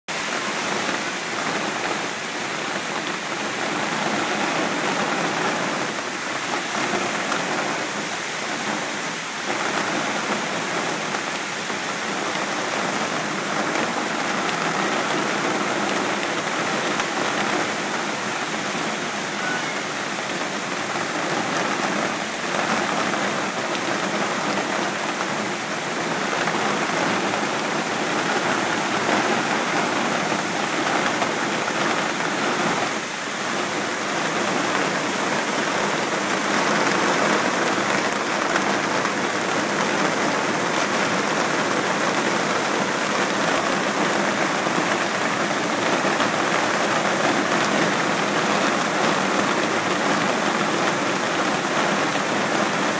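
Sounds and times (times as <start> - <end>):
heavy rain pouring on palms: 0.1 - 52.9.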